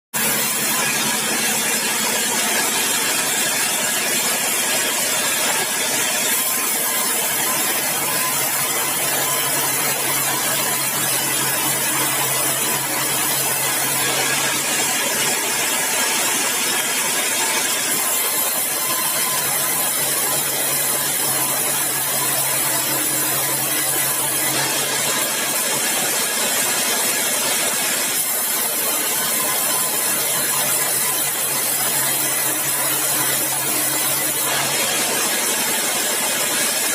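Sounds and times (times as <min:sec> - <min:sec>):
circular saw running: 0:00.2 - 0:36.9.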